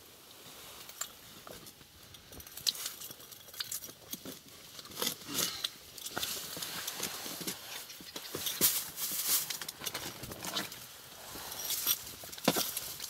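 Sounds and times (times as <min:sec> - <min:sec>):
fishing gear clicks and rustles: 0:00.2 - 0:13.0.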